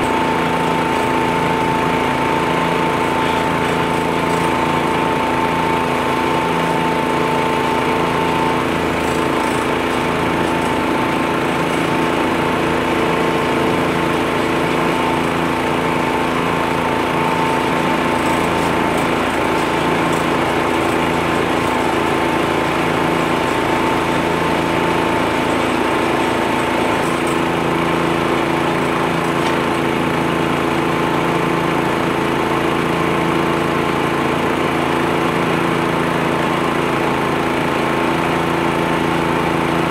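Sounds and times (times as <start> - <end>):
leaf blower engine running: 0.0 - 39.9
tractor engine: 0.0 - 39.9.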